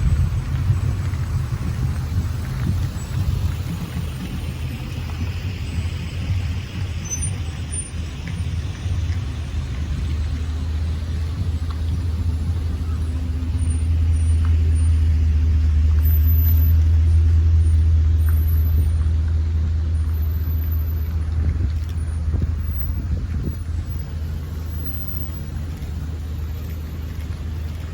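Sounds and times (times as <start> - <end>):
large vehicle engine rumble: 0.0 - 27.9.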